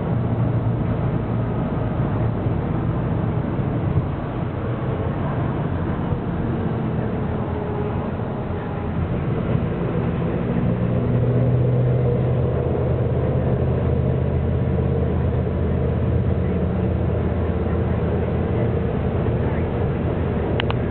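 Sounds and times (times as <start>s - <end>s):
bus engine running: 0.0s - 20.9s
tyre and road noise: 0.0s - 20.9s.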